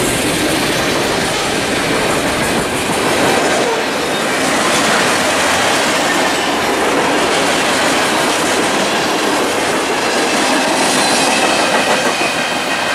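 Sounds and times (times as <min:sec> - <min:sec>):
train wheels rushing on rails: 0:00.0 - 0:12.9.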